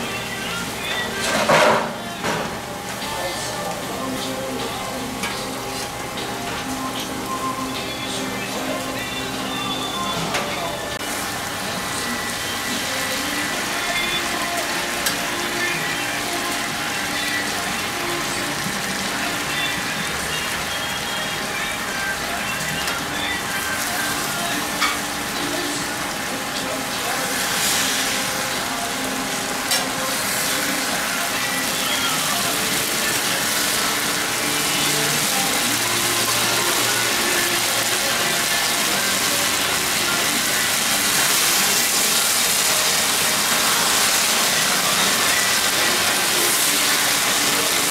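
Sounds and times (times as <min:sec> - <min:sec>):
water and oil sizzling on griddle: 0:00.0 - 0:47.9.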